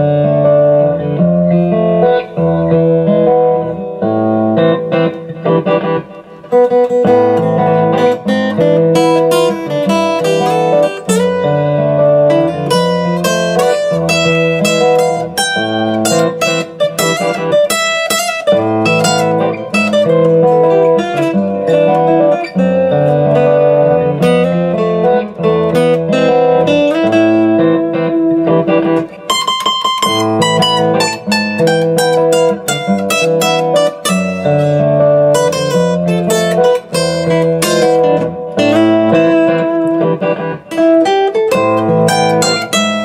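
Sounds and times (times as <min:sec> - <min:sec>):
acoustic guitar jazz chords: 0:00.0 - 0:43.0.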